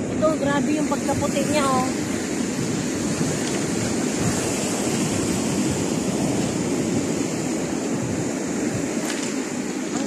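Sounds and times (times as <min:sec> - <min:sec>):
waves washing on pebble beach: 0:00.0 - 0:10.0.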